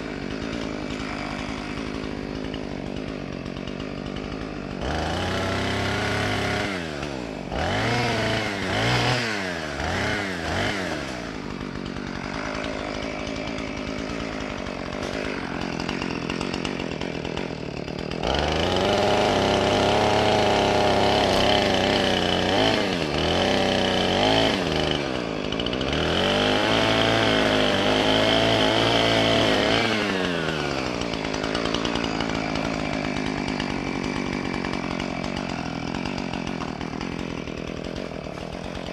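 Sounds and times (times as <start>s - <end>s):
chainsaw revving and cutting wood: 0.0s - 38.9s.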